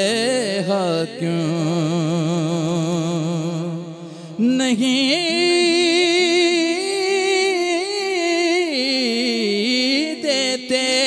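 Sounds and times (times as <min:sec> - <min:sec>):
person singing with vibrato: 0:00.0 - 0:11.0.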